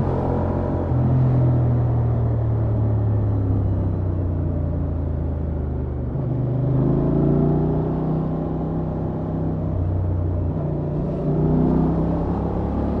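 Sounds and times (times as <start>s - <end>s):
wind and road rush: 0.0s - 13.0s.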